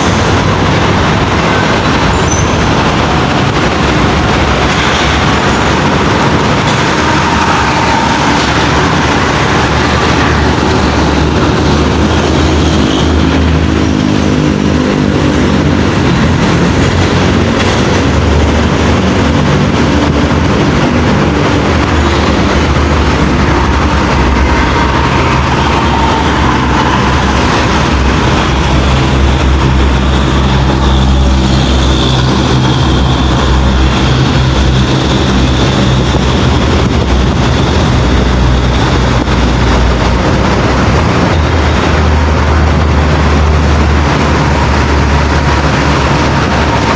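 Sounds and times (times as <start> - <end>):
diesel trucks driving by: 0.0 - 46.9
tyre and road noise: 0.0 - 46.9.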